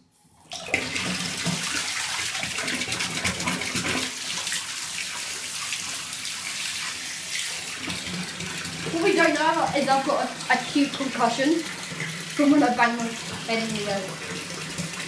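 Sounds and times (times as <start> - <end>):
tap water pouring into bathtub: 0.4 - 15.0.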